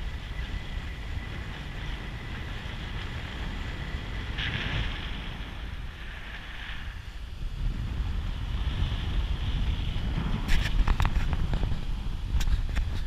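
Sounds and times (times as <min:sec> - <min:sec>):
riverboat engine rumble: 0:00.0 - 0:13.0
wind noise on microphone: 0:00.0 - 0:13.0.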